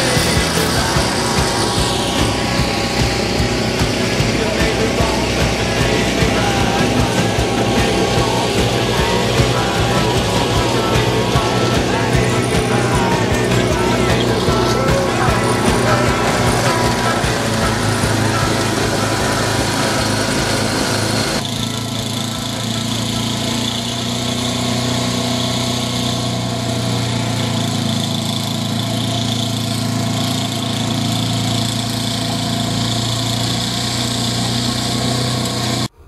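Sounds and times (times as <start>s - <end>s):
snowblower engine running: 0.0s - 36.0s
snowblower throwing snow: 0.0s - 36.0s.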